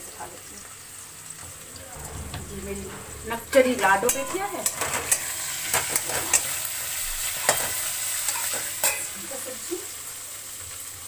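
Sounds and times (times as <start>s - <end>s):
vegetables sizzling in a pan: 0.0s - 2.1s, 3.5s - 11.0s.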